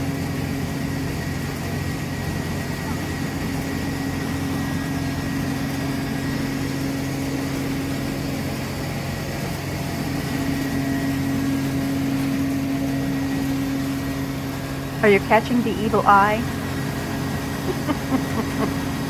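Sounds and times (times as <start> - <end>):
tractor engine humming: 0.0 - 19.0.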